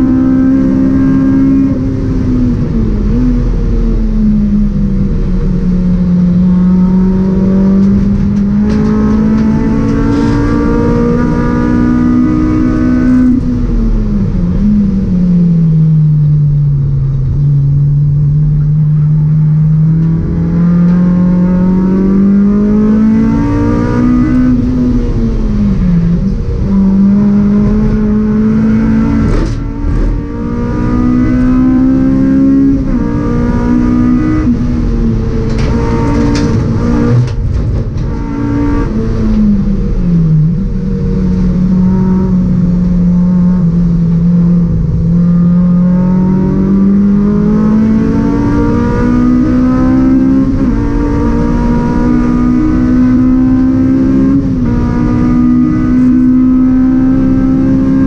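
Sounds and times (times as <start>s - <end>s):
race car engine: 0.0s - 58.0s.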